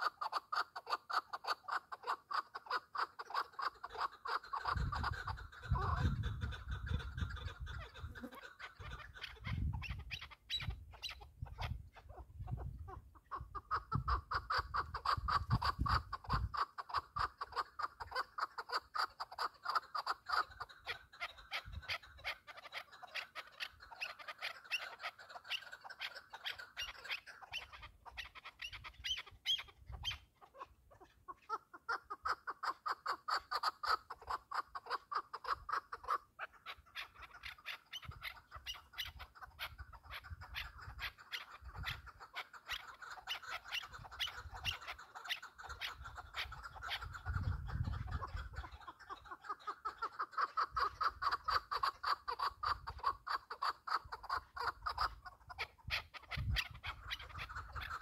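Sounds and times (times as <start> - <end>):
partridge clucking call: 0.0 - 58.0.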